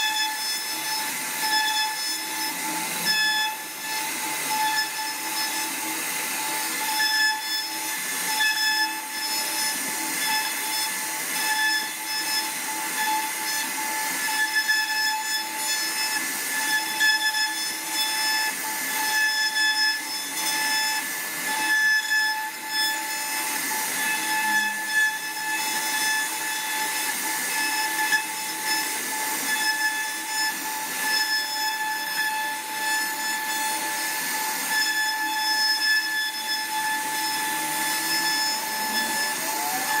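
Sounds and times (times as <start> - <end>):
bit rasping through wood: 0.0 - 40.0
router spindle high whine: 0.0 - 40.0.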